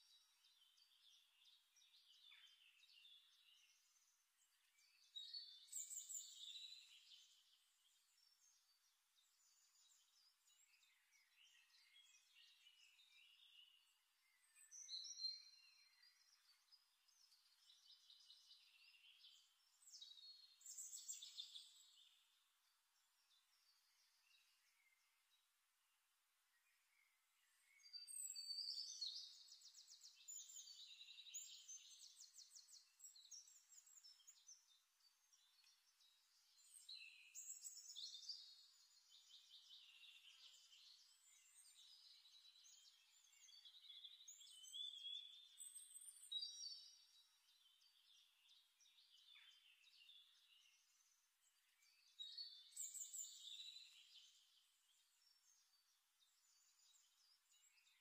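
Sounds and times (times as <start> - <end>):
birds chirping and trilling: 0.1 - 25.5, 26.7 - 58.0.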